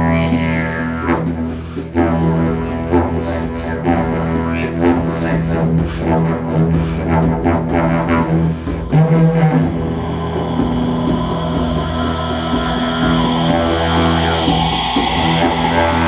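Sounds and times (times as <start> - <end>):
didgeridoo drone: 0.0 - 16.0.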